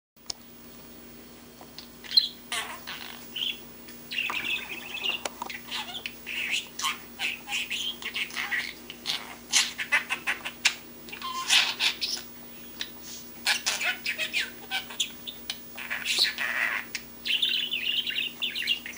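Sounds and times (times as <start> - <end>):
budgie chirping and warbling: 2.0 - 18.9.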